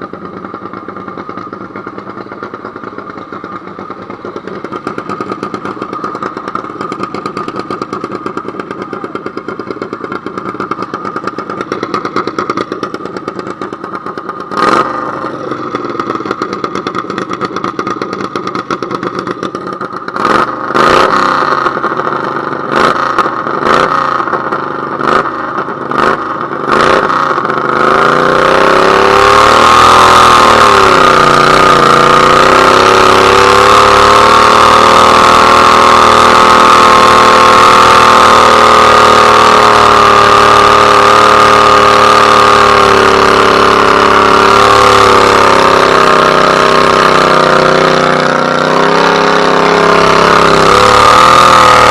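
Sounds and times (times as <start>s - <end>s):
tractor engine revving: 0.0s - 51.9s.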